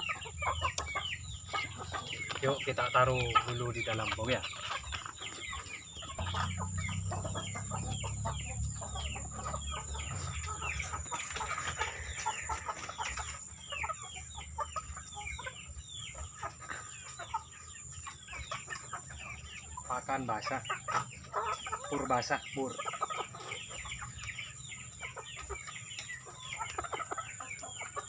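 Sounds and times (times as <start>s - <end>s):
chickens clucking and peeping: 0.0s - 28.0s.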